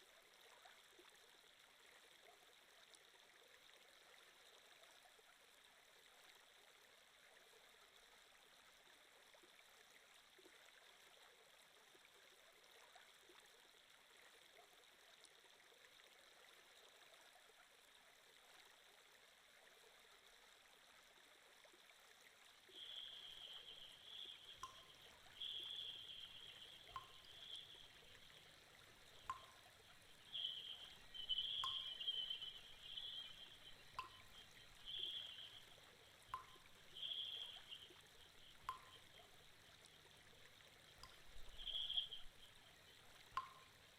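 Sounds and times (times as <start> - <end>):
trickling water: 0.0 - 43.9.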